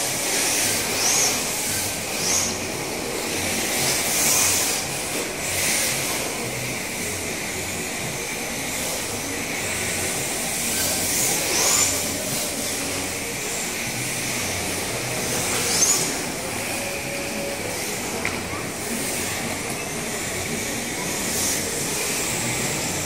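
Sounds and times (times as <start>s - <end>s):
rc car motor whining: 0.0s - 23.0s
small electric motors hissing: 0.0s - 23.0s.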